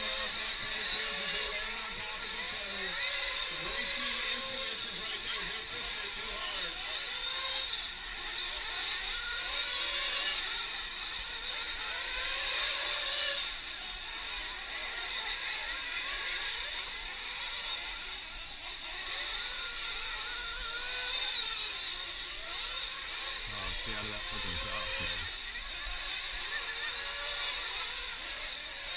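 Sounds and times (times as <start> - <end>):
rc truck engines whining: 0.0 - 28.9.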